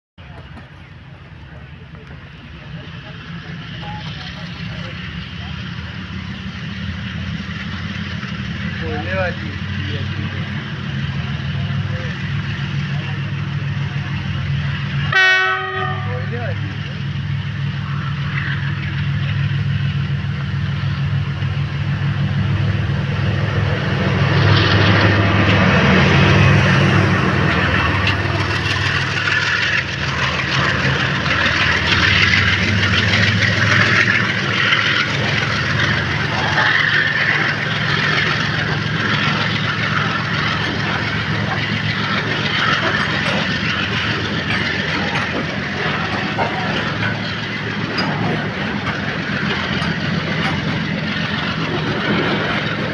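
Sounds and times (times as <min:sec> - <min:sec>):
diesel locomotive engine drone: 0:00.2 - 0:52.9
wagons rattling on rails: 0:00.2 - 0:52.9.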